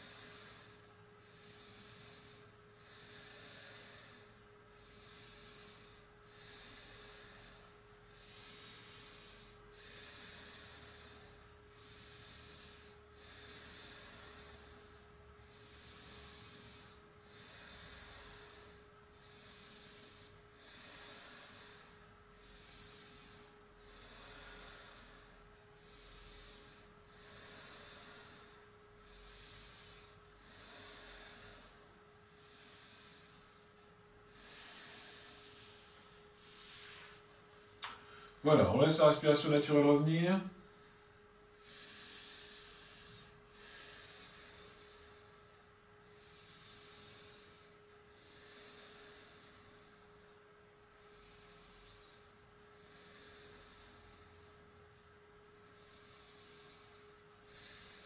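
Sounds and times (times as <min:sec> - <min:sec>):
faint hum: 0:00.0 - 0:58.0
person breathing with hiss: 0:00.0 - 0:58.0.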